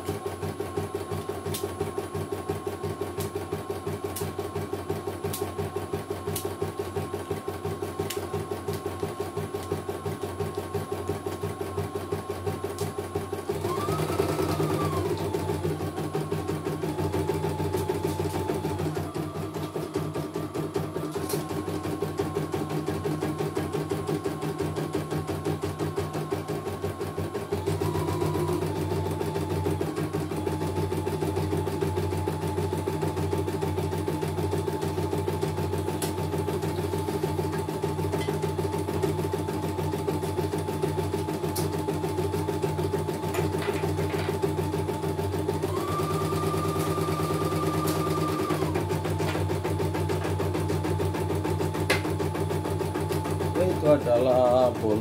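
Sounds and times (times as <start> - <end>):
motor whine: 8.1 - 55.0.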